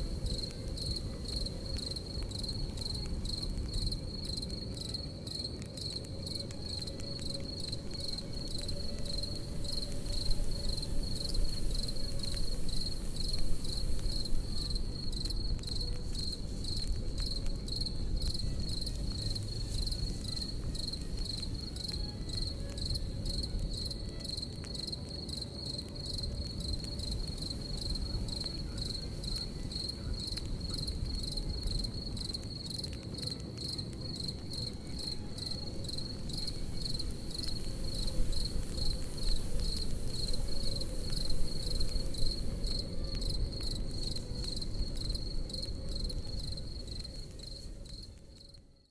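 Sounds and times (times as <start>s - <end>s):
campfire crackling: 0.0s - 48.9s
crickets chirping: 0.0s - 48.9s.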